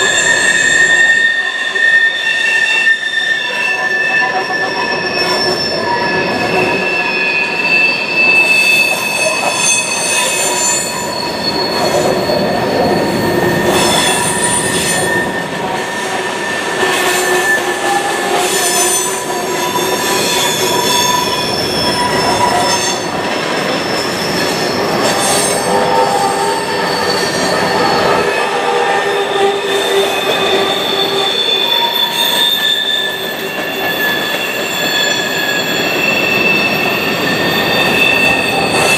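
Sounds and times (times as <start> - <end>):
train wheels squealing on rails: 0.0 - 38.9.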